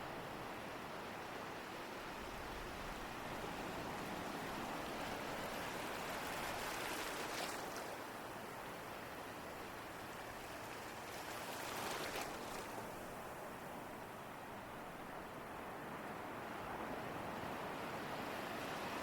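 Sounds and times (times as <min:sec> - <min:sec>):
ocean waves surf: 0:00.1 - 0:19.0.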